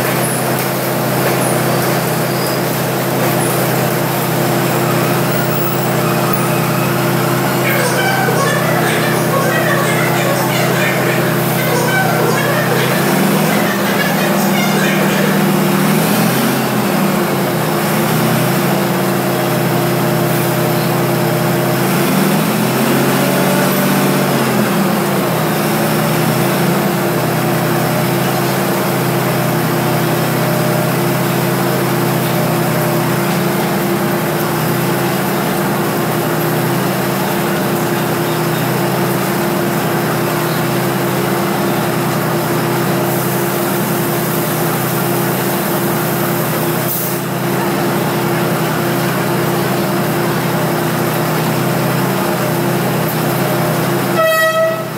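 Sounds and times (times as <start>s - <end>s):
diesel train engine idling: 0.0s - 54.9s.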